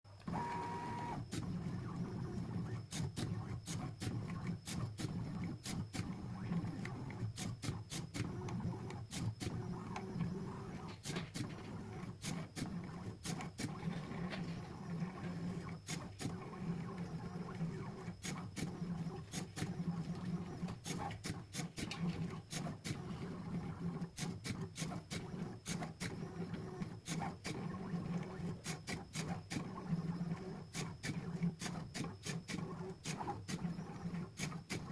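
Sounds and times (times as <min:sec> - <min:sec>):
plotter motor hum: 0:00.1 - 0:34.9.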